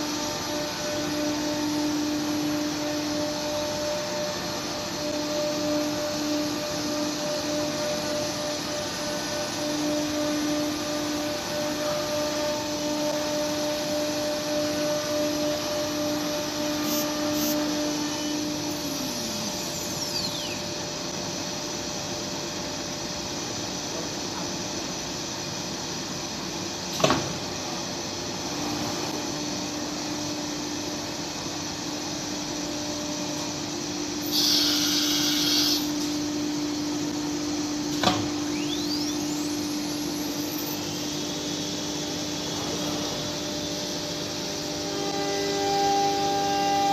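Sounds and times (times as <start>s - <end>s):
cnc router machine noise: 0.0s - 46.9s.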